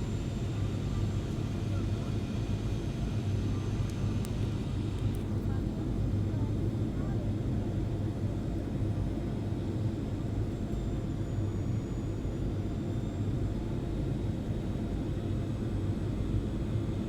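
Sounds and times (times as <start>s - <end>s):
jet engine cabin rumble: 0.0s - 17.0s.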